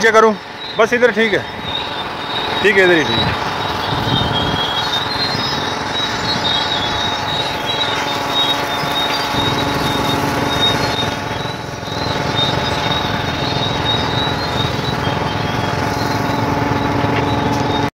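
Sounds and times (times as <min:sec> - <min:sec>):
thin high chirping: 0:00.0 - 0:17.9
truck engine idling: 0:00.0 - 0:17.9.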